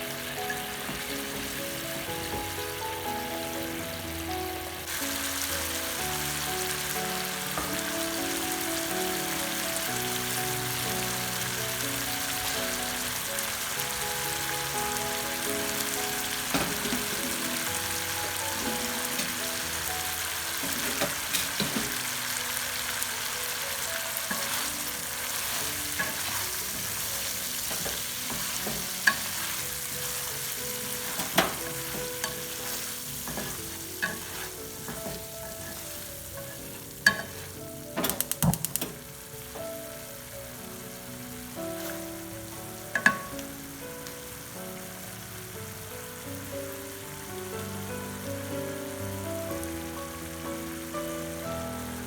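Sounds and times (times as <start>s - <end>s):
eggs sizzling in a frying pan: 0.0s - 52.0s
soft background music: 0.0s - 52.0s.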